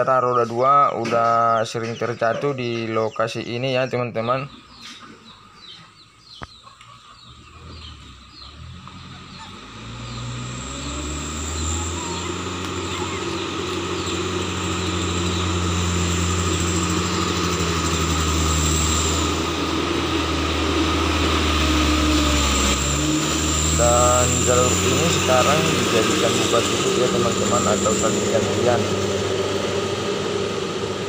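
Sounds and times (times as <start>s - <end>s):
diesel truck engine droning: 5.6s - 31.0s.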